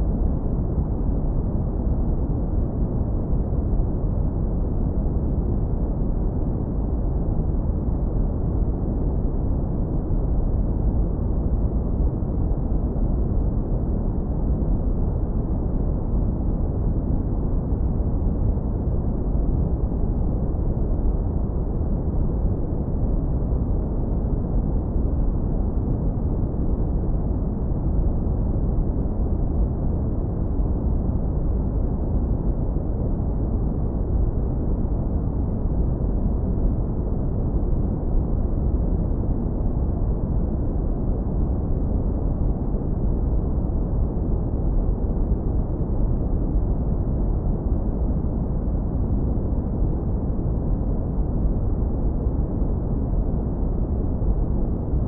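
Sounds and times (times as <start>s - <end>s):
deep brown noise rumble: 0.0s - 55.0s.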